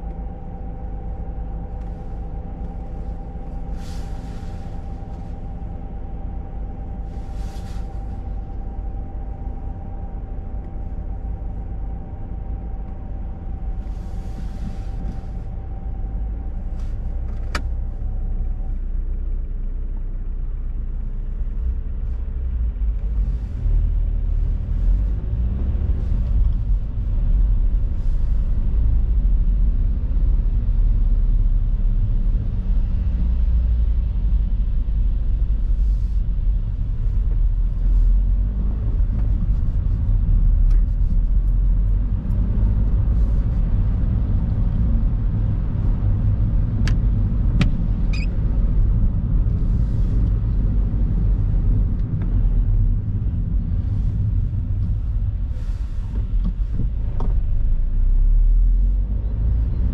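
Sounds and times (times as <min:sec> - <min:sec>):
car engine idling: 0:00.0 - 0:58.1
engine and tyres on wet road: 0:00.0 - 0:59.9.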